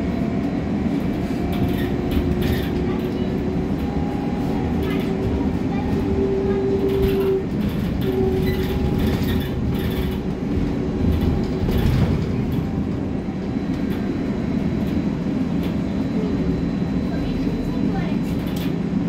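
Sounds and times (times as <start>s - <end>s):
bus drivetrain and road rumble: 0.0s - 19.0s.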